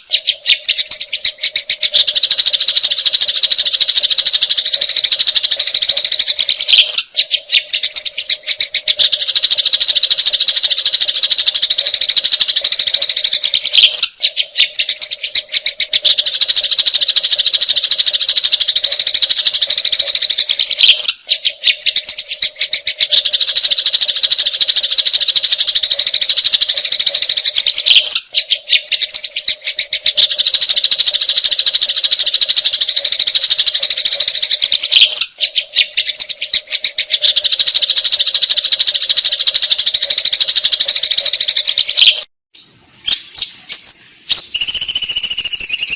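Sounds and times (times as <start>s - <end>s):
sparrows chattering: 0.0s - 45.9s.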